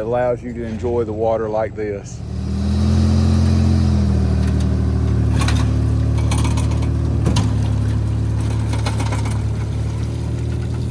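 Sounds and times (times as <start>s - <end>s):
boat engine running: 1.8s - 10.9s.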